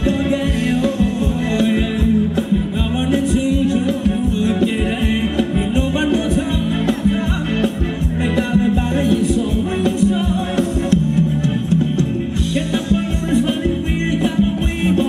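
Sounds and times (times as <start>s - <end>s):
bass line: 0.0s - 15.0s
live band dance music: 0.0s - 15.0s
steady drum beat: 0.0s - 15.0s.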